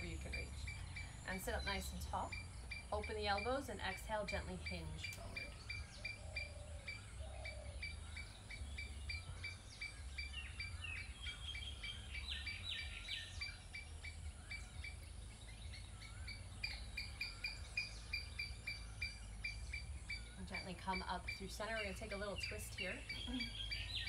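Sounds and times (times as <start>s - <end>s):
birds calling: 0.0s - 24.0s
repeated short bird chirp: 0.0s - 24.0s.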